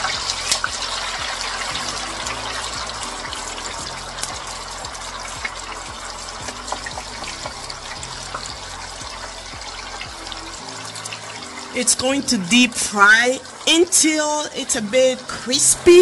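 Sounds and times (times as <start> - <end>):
potatoes sizzling in hot oil: 0.0 - 16.0.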